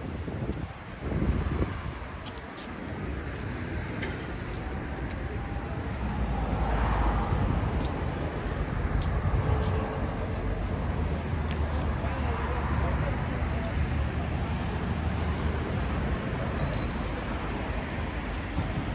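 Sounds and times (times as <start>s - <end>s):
street traffic rumbling: 0.0s - 18.9s.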